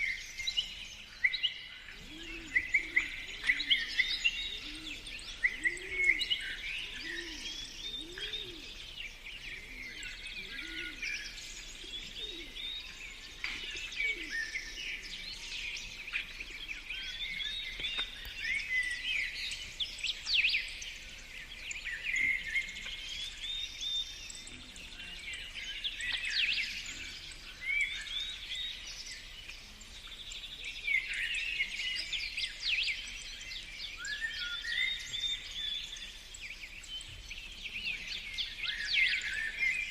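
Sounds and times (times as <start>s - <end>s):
low repeated bird notes: 0.0s - 39.9s
songbirds singing and chirping: 0.0s - 39.9s.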